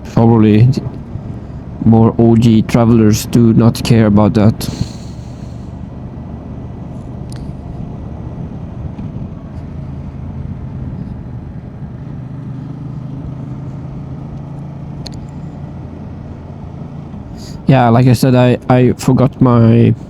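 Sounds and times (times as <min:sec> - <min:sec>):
motorcycle engine cruising: 0:00.0 - 0:20.0
road and wind noise: 0:00.0 - 0:20.0.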